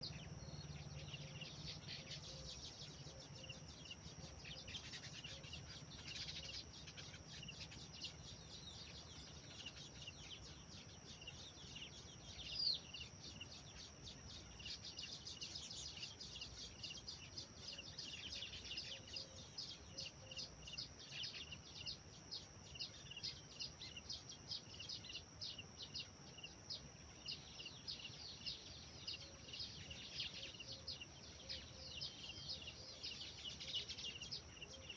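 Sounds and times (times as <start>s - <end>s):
birds chirping chorus: 0.0s - 34.9s.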